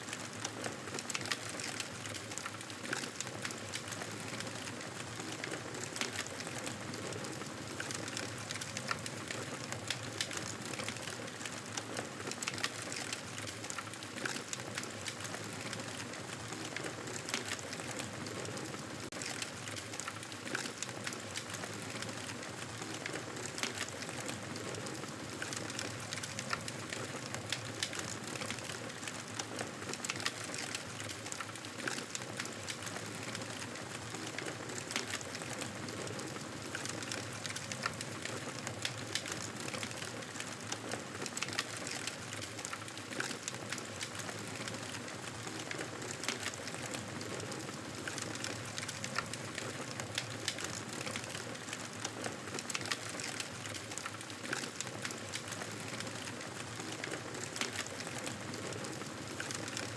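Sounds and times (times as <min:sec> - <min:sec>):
campfire crackling and popping: 0:00.1 - 0:59.9.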